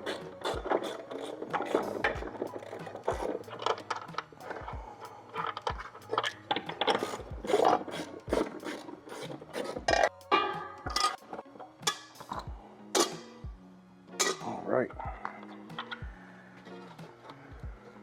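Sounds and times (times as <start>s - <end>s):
background music with a beat: 0.0s - 18.0s.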